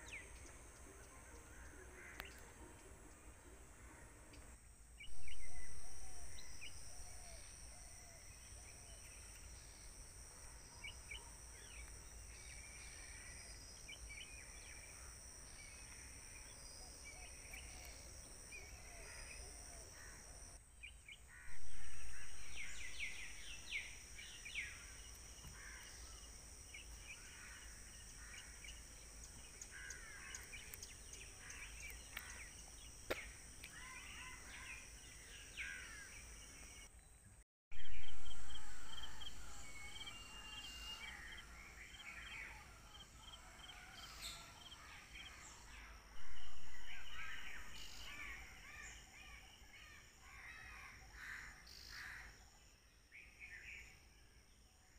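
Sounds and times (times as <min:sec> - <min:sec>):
insects droning: 0:00.0 - 0:37.1, 0:37.8 - 0:54.9.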